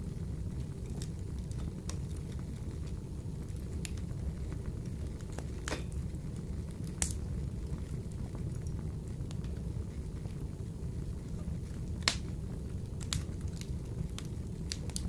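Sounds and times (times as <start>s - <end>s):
wood fire crackling in a stove: 0.0s - 15.0s.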